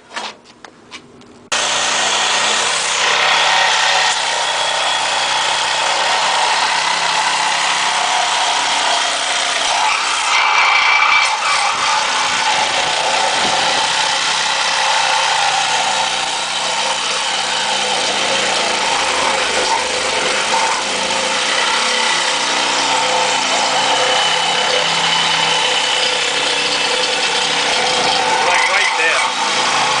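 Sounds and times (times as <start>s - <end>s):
reciprocating saw cutting: 1.5s - 30.0s.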